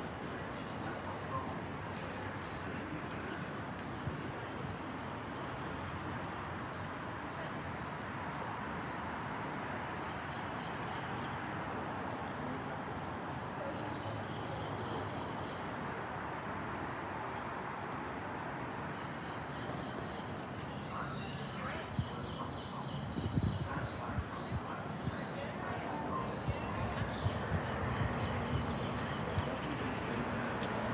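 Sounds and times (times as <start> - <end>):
railway platform background noise: 0.0 - 30.9.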